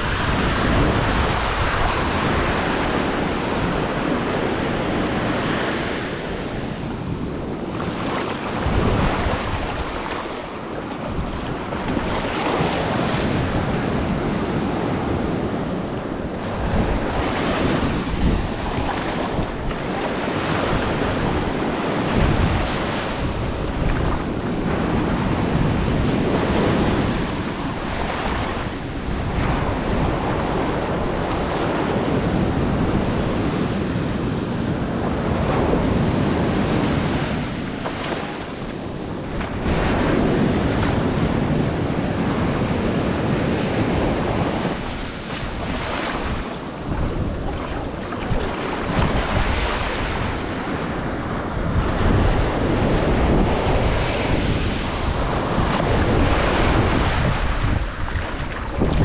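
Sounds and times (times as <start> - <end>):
waves breaking on sandy shore: 0.0 - 59.0
wind buffeting microphone: 0.0 - 59.0.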